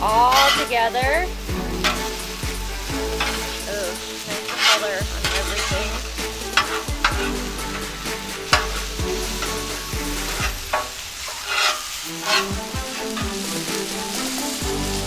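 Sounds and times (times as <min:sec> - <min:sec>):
food sizzling on a griddle: 0:00.0 - 0:15.0
spatula scraping griddle: 0:00.0 - 0:15.0.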